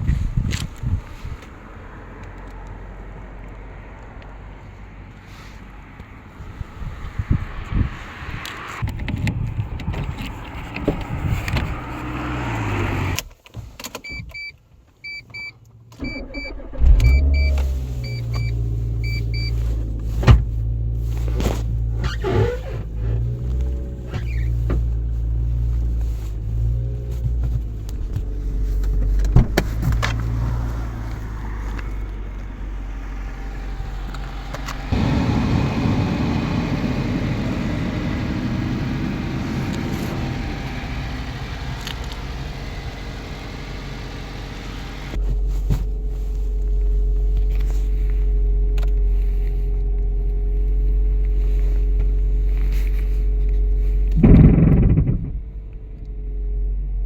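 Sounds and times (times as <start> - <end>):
motor vehicle engine rumbling: 0.0 - 13.3, 16.0 - 57.0.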